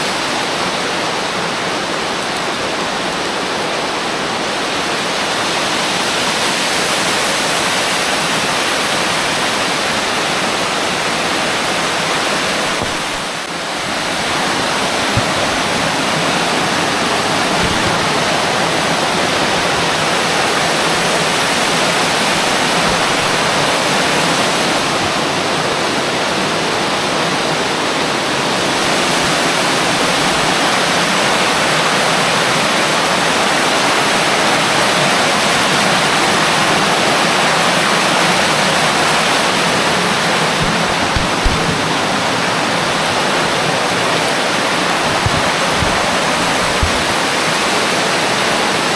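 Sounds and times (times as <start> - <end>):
stream cascading over rock ledges: 0.0 - 48.9.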